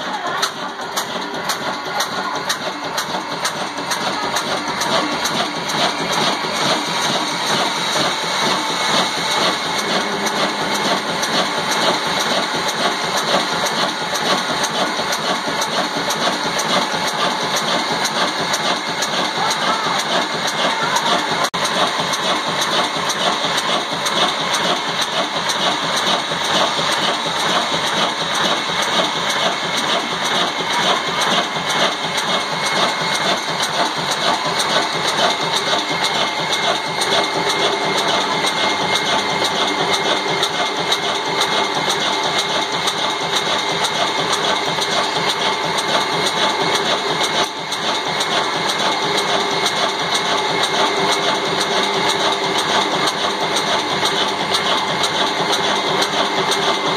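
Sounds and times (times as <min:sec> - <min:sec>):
stationary diesel engine clattering: 0:00.0 - 0:56.9.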